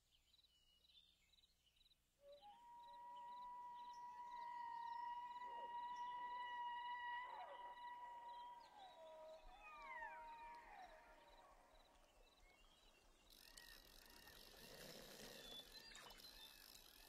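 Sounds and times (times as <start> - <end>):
gliding whistled bird calls: 2.3 - 17.0.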